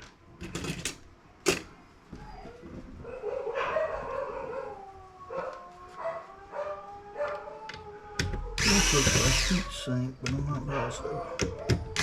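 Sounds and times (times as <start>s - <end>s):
dog howling: 2.1s - 12.0s.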